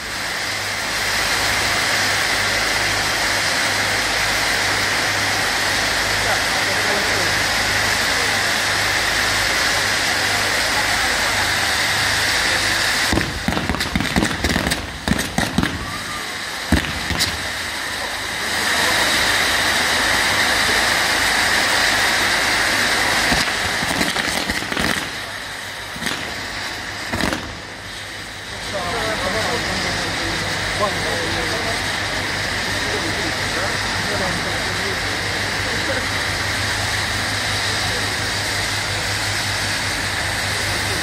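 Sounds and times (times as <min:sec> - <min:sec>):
firework bangs and crackles: 0:00.0 - 0:41.0
firework wheels hissing: 0:00.0 - 0:41.0.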